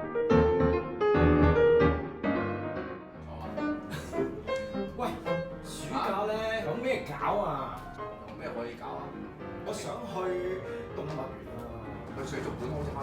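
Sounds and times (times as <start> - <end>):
classical piano music: 0.0 - 13.0.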